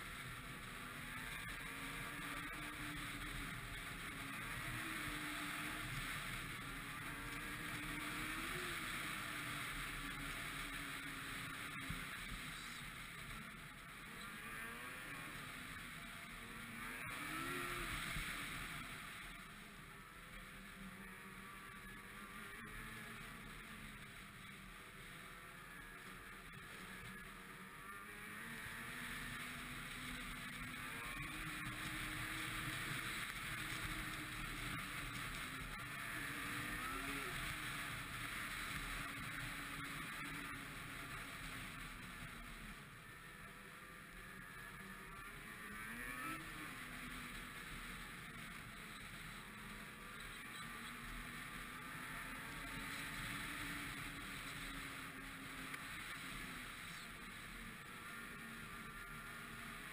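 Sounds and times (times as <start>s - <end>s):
snowmobile engine running: 0.0s - 59.9s
steady rushing noise: 0.0s - 59.9s.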